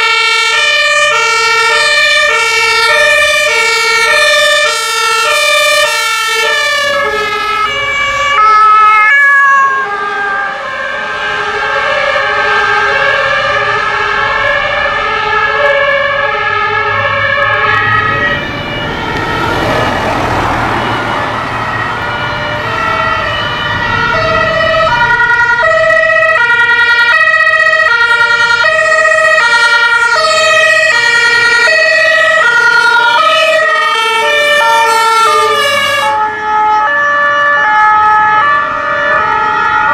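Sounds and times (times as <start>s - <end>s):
two-tone sirens: 0.0s - 39.9s
vehicle engine and tyre noise: 1.0s - 39.9s.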